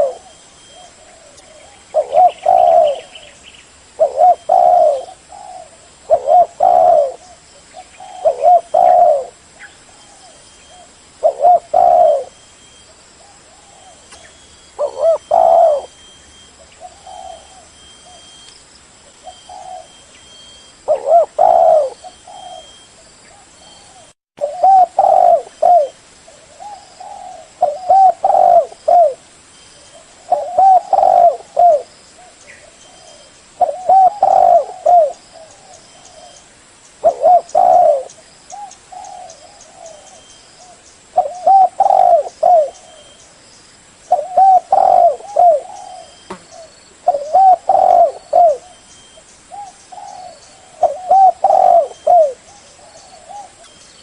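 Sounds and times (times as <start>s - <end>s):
dove cooing: 0.0s - 18.5s, 19.2s - 29.3s, 29.9s - 36.4s, 37.0s - 43.2s, 44.1s - 54.0s.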